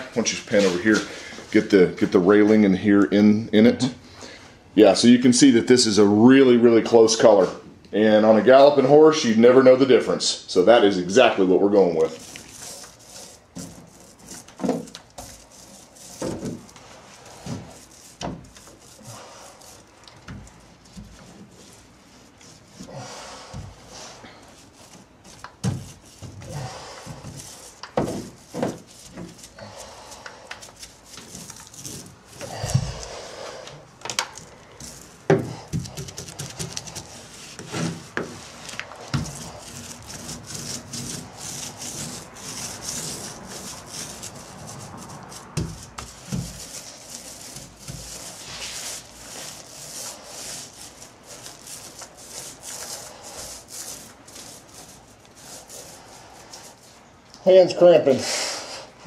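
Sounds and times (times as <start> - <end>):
paint roller wet rubbing: 0.0 - 1.7, 10.7 - 57.2.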